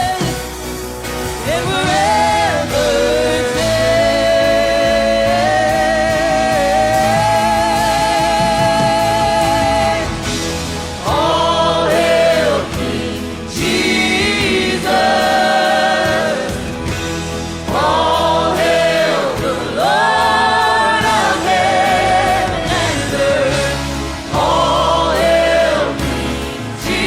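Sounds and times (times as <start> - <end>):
band accompaniment: 0.0 - 27.0
choir singing held notes: 1.1 - 27.0.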